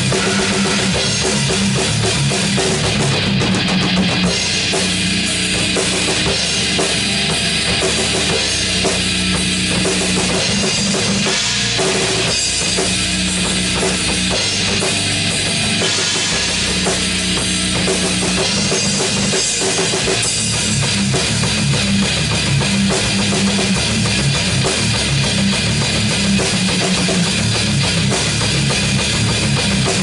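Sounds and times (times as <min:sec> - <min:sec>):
metal band playing: 0:00.0 - 0:30.0.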